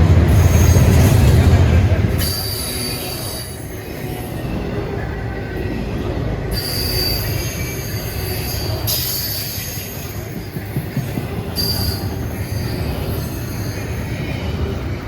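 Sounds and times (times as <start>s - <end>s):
freight train rumbling on rails: 0.0s - 15.0s
train wheel squeal: 0.0s - 15.0s.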